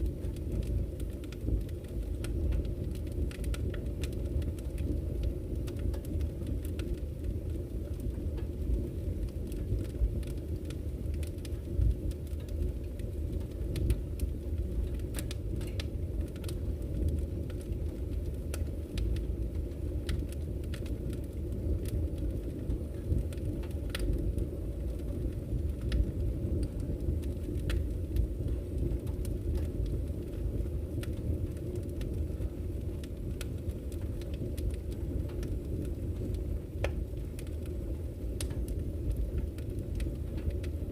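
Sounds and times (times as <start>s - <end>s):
wood fire burning: 0.0s - 40.9s.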